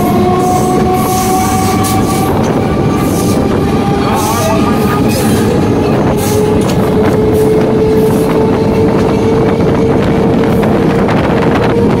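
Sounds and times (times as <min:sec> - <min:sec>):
train wheels rumbling on rail: 0:00.0 - 0:12.0
train whine: 0:00.0 - 0:12.0.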